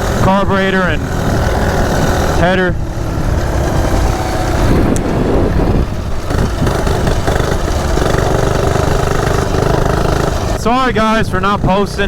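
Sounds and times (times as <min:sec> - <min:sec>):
minibike engine running: 0:00.0 - 0:12.0.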